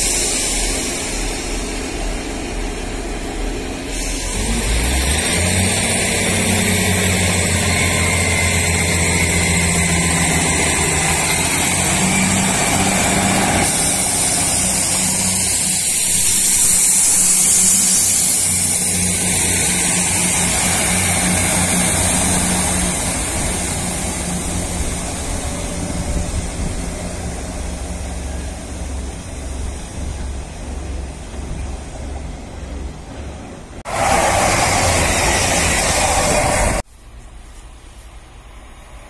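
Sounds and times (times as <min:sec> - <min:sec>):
diesel train engine hum: 0:00.0 - 0:39.0
rail hiss: 0:00.0 - 0:39.0.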